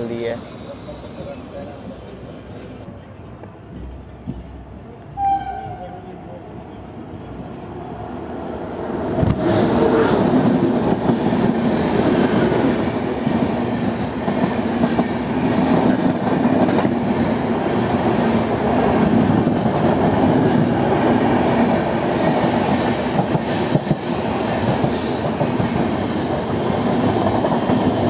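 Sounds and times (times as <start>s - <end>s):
train wheels rumbling and rattling: 0.0s - 28.0s.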